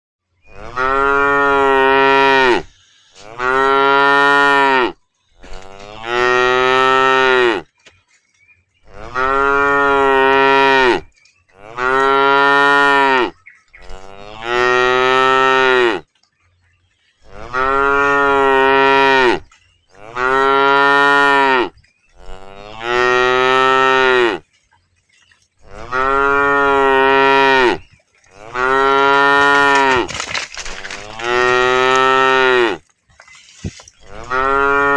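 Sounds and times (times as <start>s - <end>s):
cows mooing: 0.5s - 7.7s, 8.9s - 16.1s, 17.2s - 24.5s, 25.6s - 32.9s, 34.0s - 34.9s.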